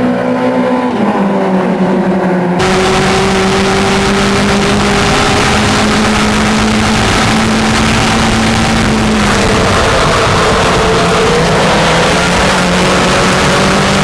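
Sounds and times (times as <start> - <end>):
racing car engine high revs: 0.0 - 14.0.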